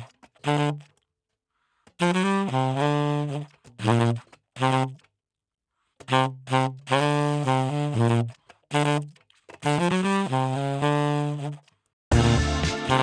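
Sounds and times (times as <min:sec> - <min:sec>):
solo wind instrument: 0:00.0 - 0:01.0, 0:01.9 - 0:05.1, 0:06.0 - 0:13.0.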